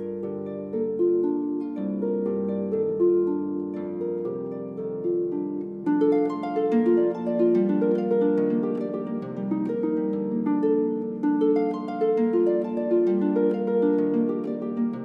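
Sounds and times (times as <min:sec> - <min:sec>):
harp playing slow piece: 0:00.0 - 0:15.0.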